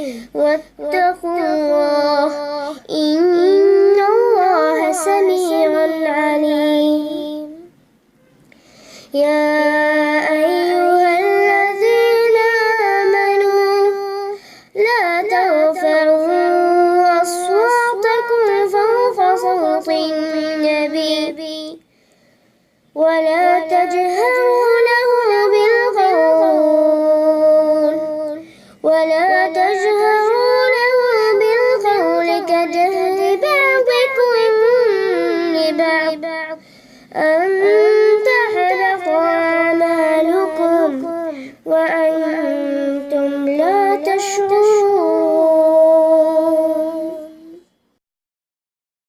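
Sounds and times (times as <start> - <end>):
child reciting melodically: 0.0 - 7.7, 9.1 - 21.8, 23.0 - 47.6.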